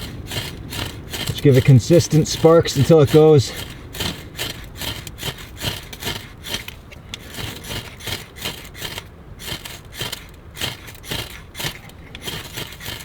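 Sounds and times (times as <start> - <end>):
ferro rod scraping: 0.0 - 13.0.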